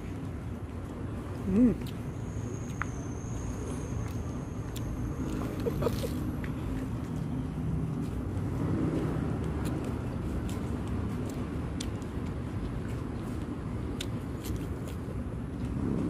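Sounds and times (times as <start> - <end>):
lettuce chewing crunches: 0.0 - 16.0.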